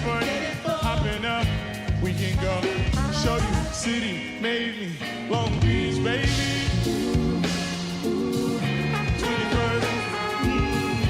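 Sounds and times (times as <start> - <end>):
live r and b band: 0.0 - 11.0
person singing: 2.1 - 11.0.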